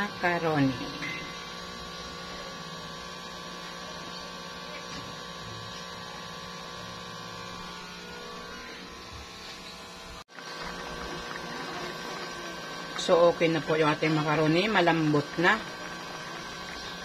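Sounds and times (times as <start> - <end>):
steady hum with held tones: 0.0 - 17.0.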